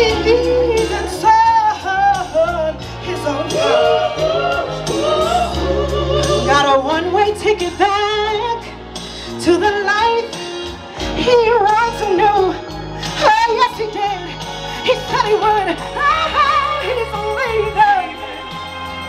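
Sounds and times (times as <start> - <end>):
woman singing soul ballad: 0.0 - 10.4, 11.0 - 18.5.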